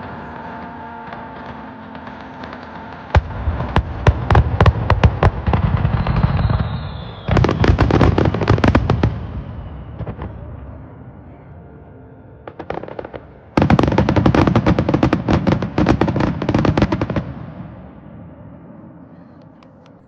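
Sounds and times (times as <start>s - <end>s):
fireworks crackling: 0.0s - 11.0s, 12.4s - 18.1s.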